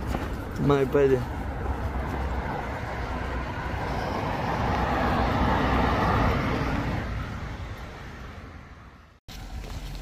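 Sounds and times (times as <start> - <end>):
road vehicle passing by: 0.0 - 10.0.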